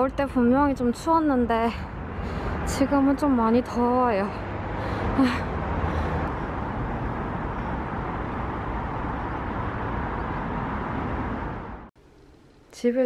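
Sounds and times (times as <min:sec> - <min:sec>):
road traffic noise: 0:00.0 - 0:12.7.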